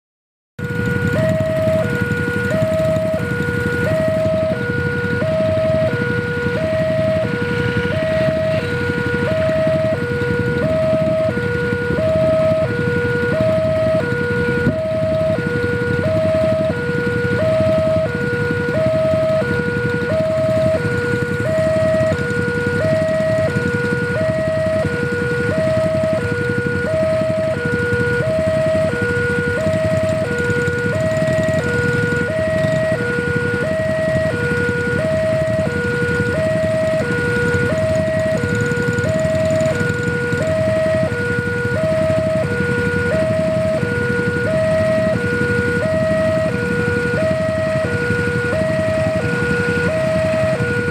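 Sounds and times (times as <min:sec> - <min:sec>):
two-tone crossing alarm: 0:00.6 - 0:50.9.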